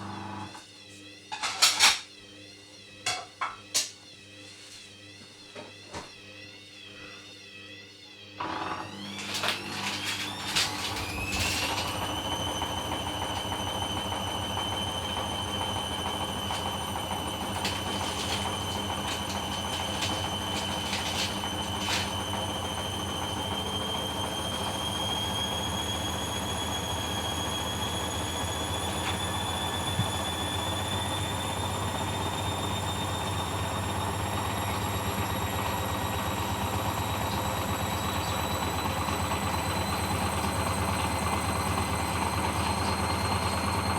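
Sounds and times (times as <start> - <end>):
washing machine motor whine: 0.0 - 43.9.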